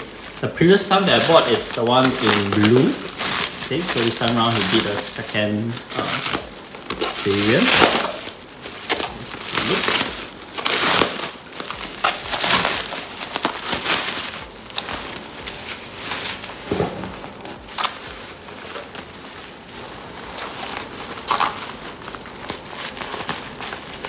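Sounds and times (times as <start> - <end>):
plastic film crinkling: 0.0 - 24.0.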